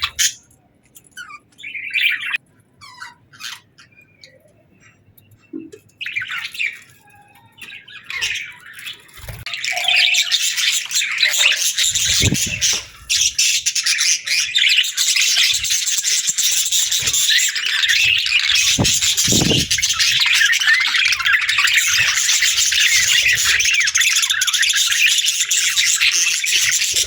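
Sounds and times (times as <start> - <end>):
budgerigars chirping and chattering: 0.0 - 27.0.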